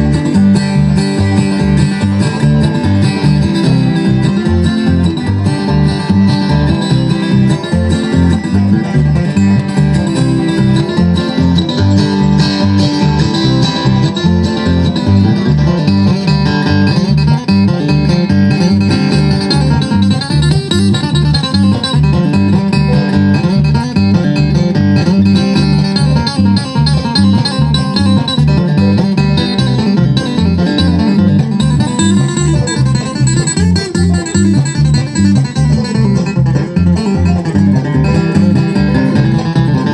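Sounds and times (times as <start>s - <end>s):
banjo picking: 0.0s - 39.9s
bass beat: 0.0s - 39.9s
guitar picking: 0.0s - 39.9s.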